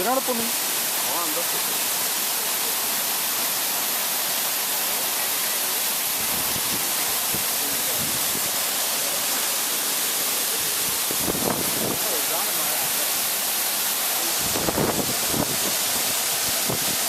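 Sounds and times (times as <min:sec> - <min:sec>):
hiss of falling water: 0:00.0 - 0:17.0.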